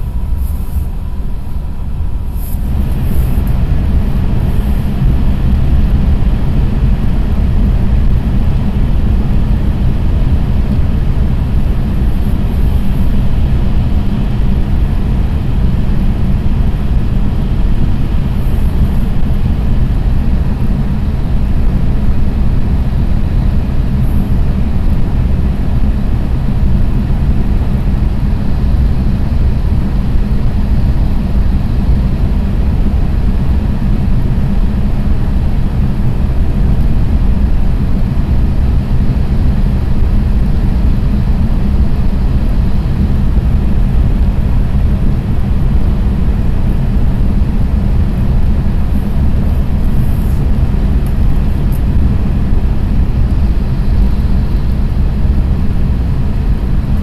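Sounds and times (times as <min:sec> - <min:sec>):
train running rumble: 0:00.0 - 0:57.0.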